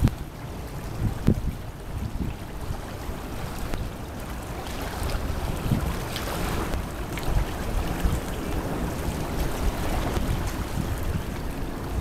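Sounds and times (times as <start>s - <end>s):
water lapping and splashing: 0.0s - 12.0s
wind rumbling on microphone: 0.0s - 12.0s.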